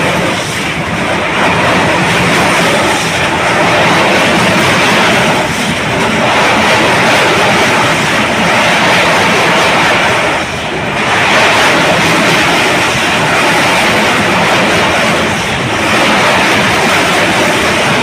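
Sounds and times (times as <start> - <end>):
train rushing on rails: 0.0 - 18.0.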